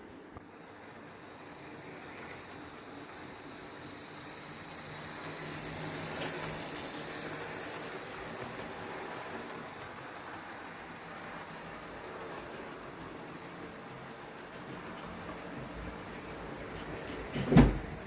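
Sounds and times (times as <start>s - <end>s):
model train whirring rattle: 0.3s - 18.0s.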